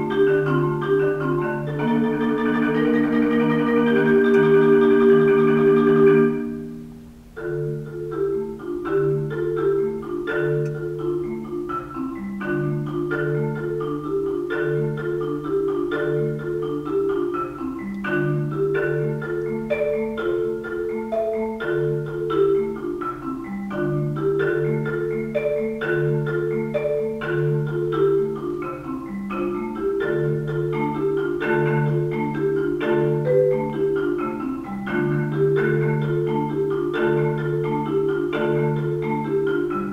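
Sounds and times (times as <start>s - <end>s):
solo marimba: 0.0s - 39.9s.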